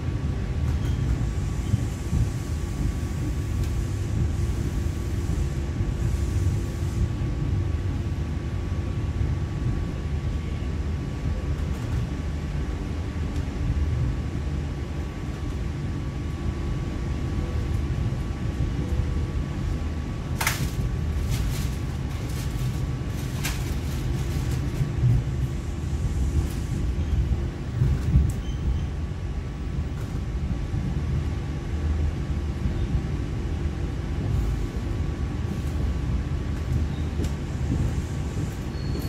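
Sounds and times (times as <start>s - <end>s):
vehicle rumble from inside: 0.0s - 39.0s.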